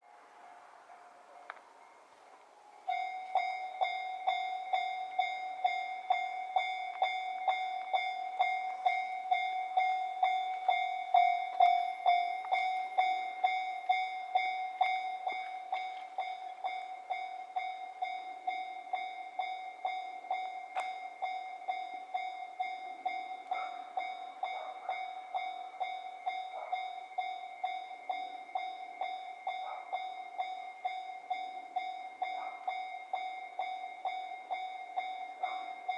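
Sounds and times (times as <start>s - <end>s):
level-crossing electronic bell: 2.9s - 35.9s.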